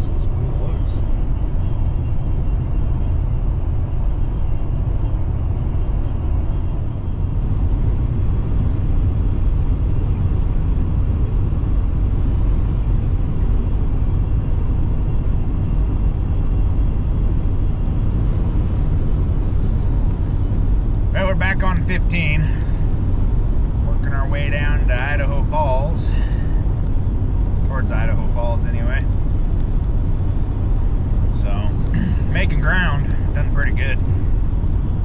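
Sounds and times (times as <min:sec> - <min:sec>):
truck road and engine rumble: 0:00.0 - 0:35.0.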